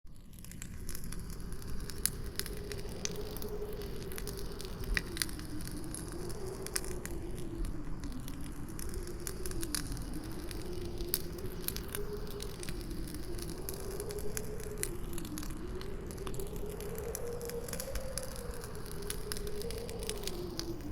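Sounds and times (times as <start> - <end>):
campfire crackling and popping: 0.1 - 20.9
howling wind: 0.1 - 20.9.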